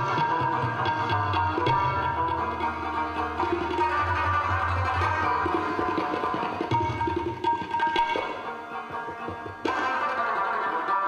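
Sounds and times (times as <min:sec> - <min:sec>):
tabla drumming: 0:00.0 - 0:11.0.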